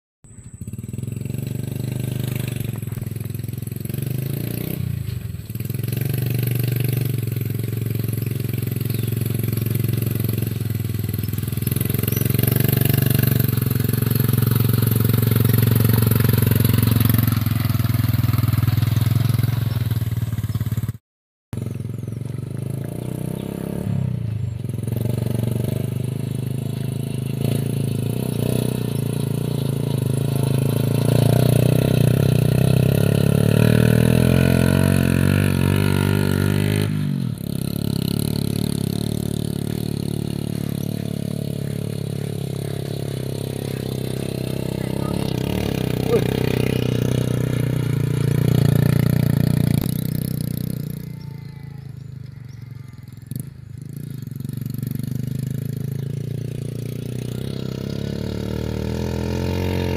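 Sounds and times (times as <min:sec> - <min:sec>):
motorcycle engine running: 0:00.3 - 0:59.9.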